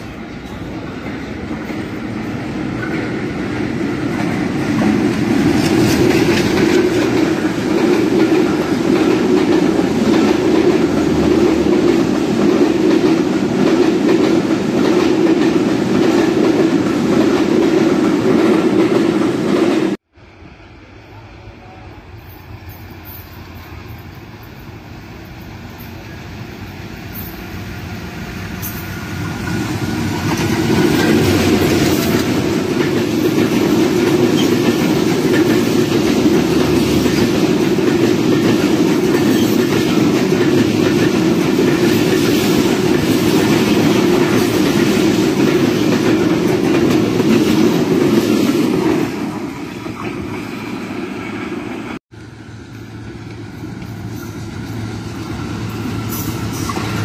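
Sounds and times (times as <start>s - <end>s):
passenger train passing: 0.0s - 57.0s
train wheel and rail noise: 0.0s - 57.0s.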